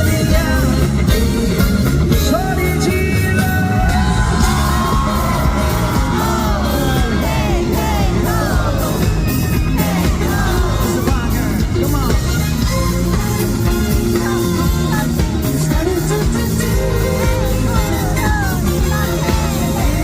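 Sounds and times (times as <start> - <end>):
live pop-rock band: 0.0 - 20.0
crowd screaming: 3.2 - 15.2, 15.9 - 20.0.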